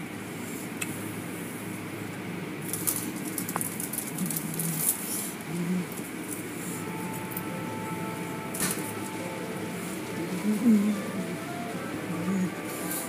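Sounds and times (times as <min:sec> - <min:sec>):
low rumble of wash machinery: 0:00.0 - 0:13.0.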